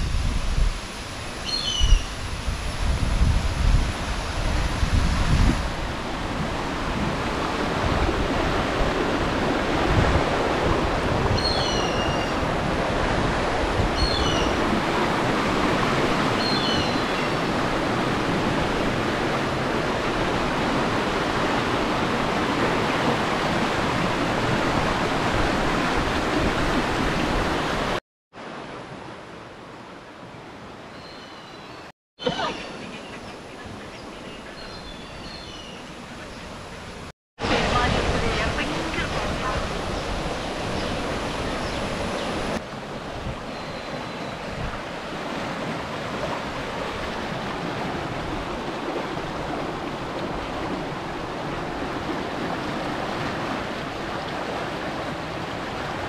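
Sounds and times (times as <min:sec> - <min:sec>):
steady rushing outdoor noise: 0:00.0 - 0:30.8, 0:32.2 - 0:56.0.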